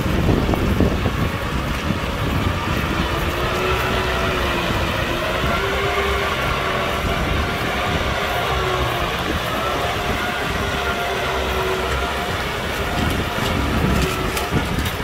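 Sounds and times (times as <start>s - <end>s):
rough bumps: 0.0s - 15.0s
tractor diesel engine running: 0.0s - 15.0s.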